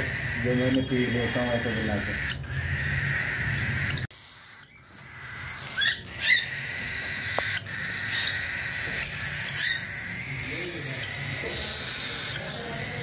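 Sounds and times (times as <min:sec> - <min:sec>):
cockatiels chirping: 0:00.0 - 0:13.0.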